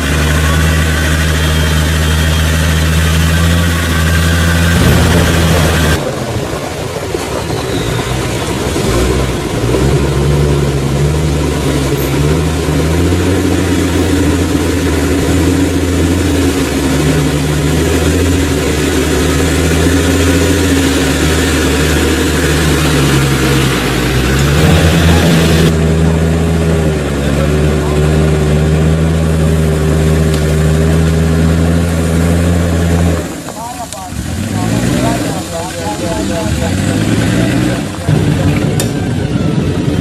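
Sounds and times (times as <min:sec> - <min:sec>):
off-road engine under load: 0:00.0 - 0:40.0.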